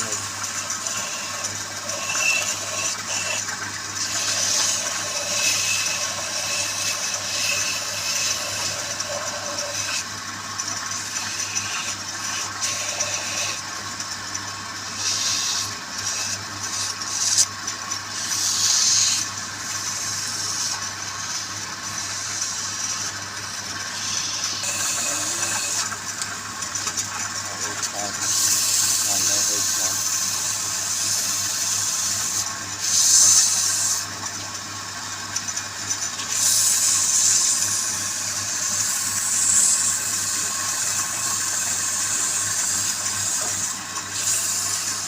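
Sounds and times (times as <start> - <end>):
turning tool scraping wood: 0.0 - 34.2, 35.4 - 45.0
wood lathe humming: 0.0 - 45.0.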